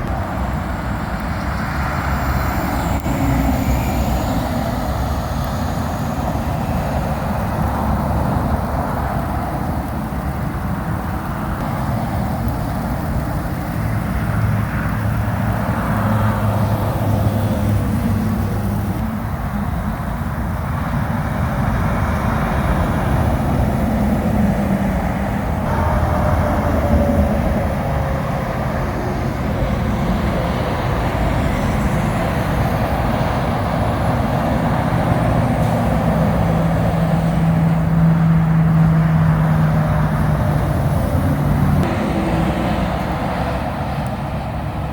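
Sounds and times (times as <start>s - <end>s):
truck engines rumbling: 0.0s - 44.9s
tyres hissing on wet road: 0.0s - 44.9s.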